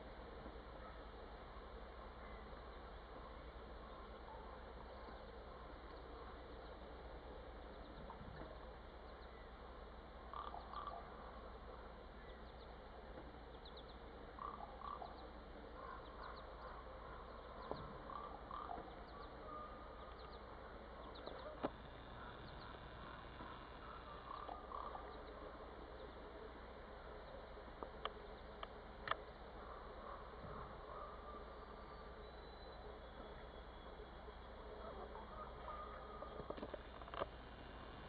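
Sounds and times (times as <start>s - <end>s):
frogs croaking: 0.8s - 38.0s
birds chirping: 2.2s - 38.0s.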